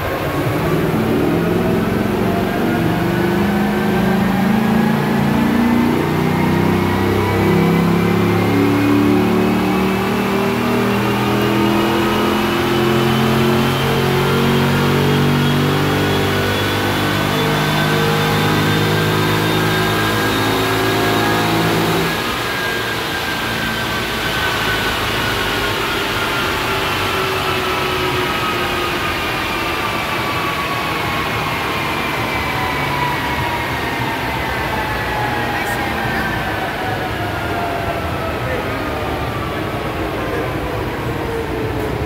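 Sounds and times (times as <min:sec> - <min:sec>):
car engine at full throttle: 0:00.0 - 0:42.0
whine rising in pitch: 0:00.0 - 0:42.0.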